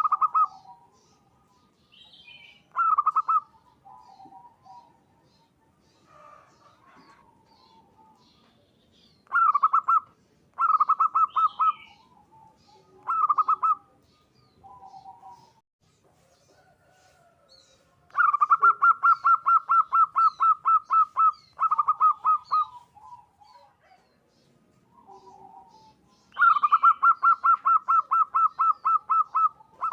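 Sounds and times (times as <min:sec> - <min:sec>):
dove cooing: 0:00.0 - 0:08.6, 0:09.2 - 0:15.6, 0:18.1 - 0:29.9.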